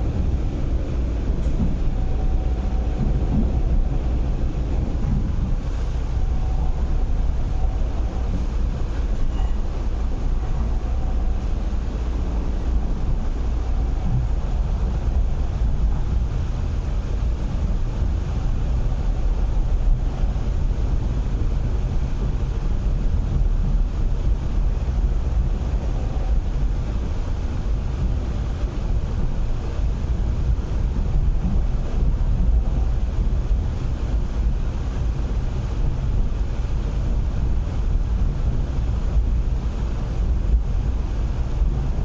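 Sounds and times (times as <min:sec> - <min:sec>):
train running rumble from inside carriage: 0:00.0 - 0:42.0.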